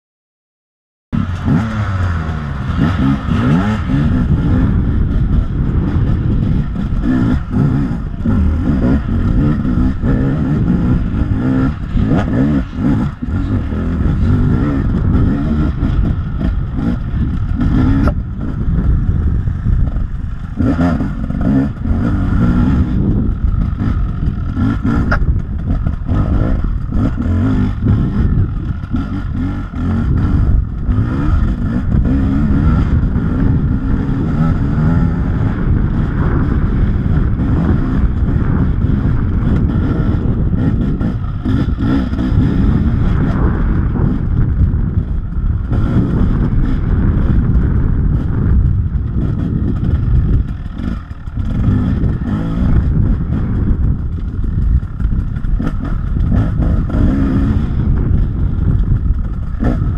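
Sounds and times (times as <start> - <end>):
motorcycle engine revving: 1.2 - 59.9.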